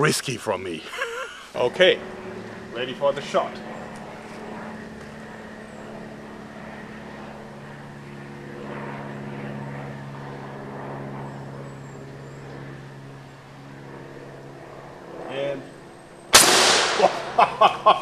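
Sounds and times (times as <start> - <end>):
distant engine droning hum: 0.0 - 18.0.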